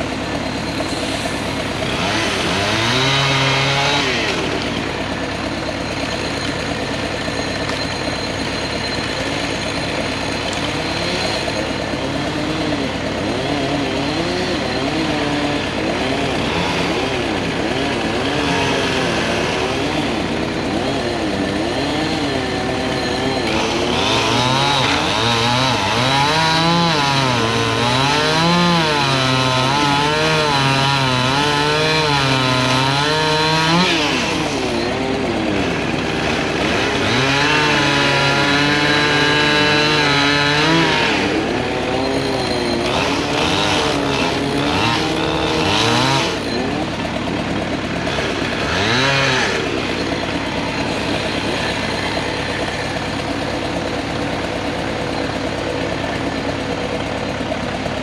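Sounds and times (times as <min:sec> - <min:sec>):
chainsaw cutting: 0:00.0 - 0:58.0.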